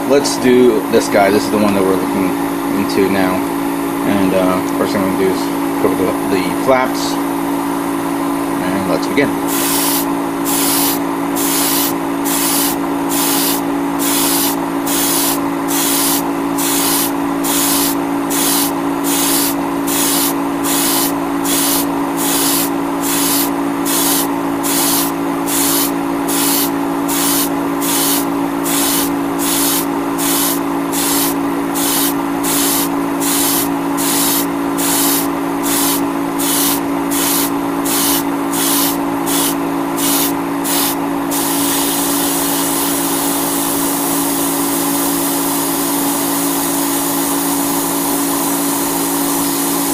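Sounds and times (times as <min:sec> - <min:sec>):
steady motor hum: 0:00.0 - 0:49.9
airbrush air hiss pulsing: 0:09.4 - 0:49.9.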